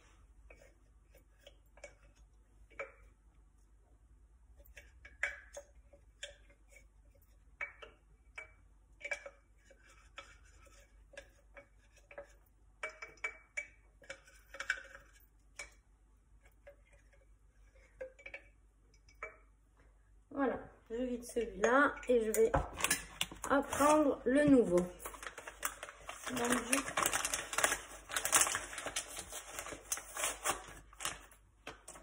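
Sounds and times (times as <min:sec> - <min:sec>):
spatula tapping and scraping: 0:00.2 - 0:03.5, 0:04.4 - 0:20.0, 0:20.9 - 0:32.0.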